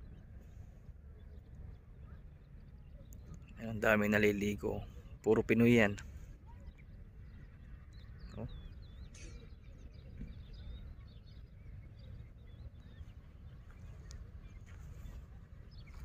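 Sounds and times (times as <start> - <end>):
faint bird chirps: 0.0 - 3.8, 4.6 - 16.0.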